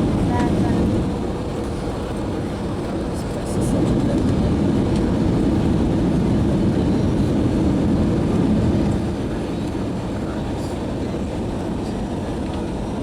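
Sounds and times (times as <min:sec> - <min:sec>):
airliner cabin engine roar: 0:00.0 - 0:13.0.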